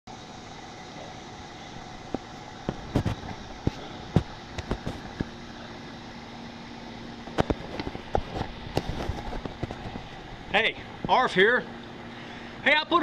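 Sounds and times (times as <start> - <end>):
outdoor hiss: 0.1 - 13.0.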